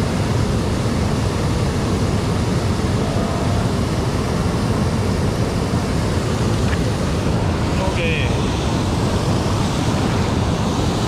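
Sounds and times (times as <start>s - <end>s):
flowing river water: 0.0s - 11.0s
wind buffeting microphone: 0.0s - 11.0s.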